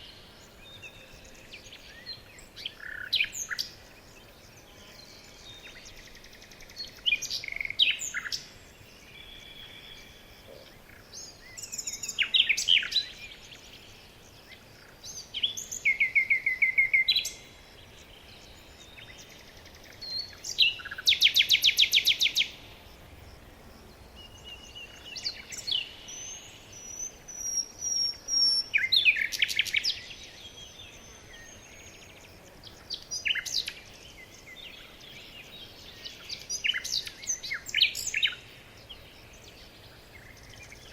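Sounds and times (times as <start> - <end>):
songbirds chirping and whistling: 0.0 - 40.9.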